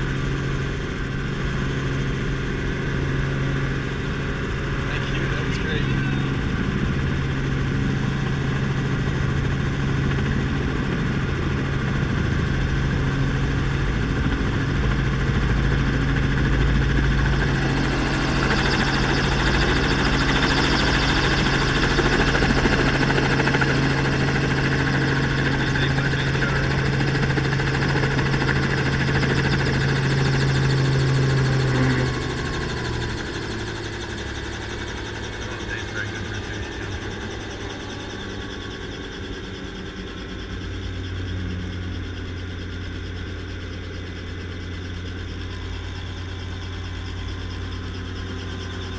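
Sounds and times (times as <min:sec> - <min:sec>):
helicopter engine and rotor: 0:00.0 - 0:48.9.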